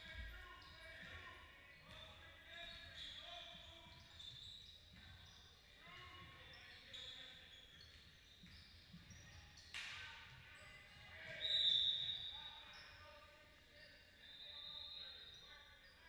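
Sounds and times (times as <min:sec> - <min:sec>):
sneakers squeaking on floor: 0:00.0 - 0:16.0.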